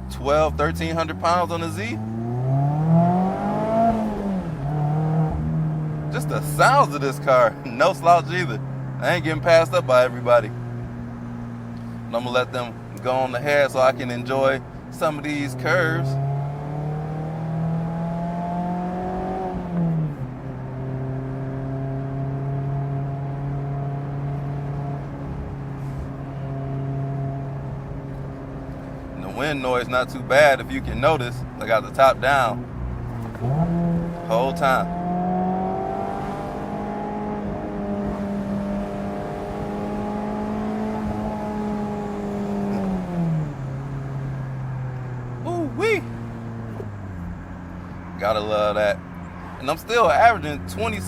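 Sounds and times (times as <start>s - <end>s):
car engine revving: 0.0s - 51.0s.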